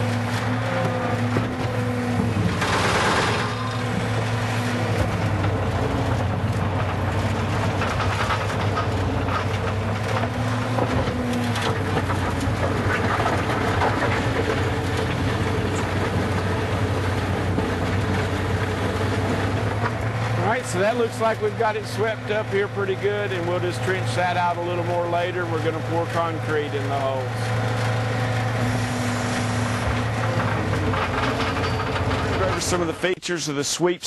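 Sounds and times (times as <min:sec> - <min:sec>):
loader engine running: 0:00.0 - 0:33.2.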